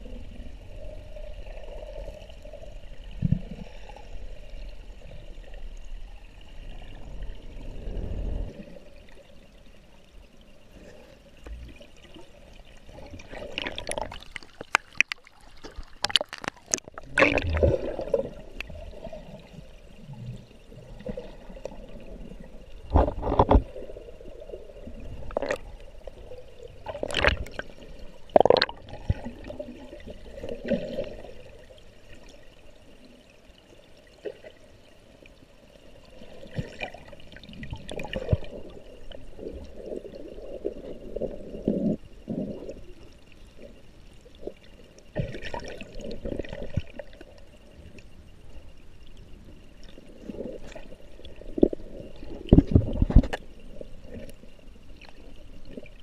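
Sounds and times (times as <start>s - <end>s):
underwater water sloshing: 0.0s - 32.5s, 36.0s - 56.0s.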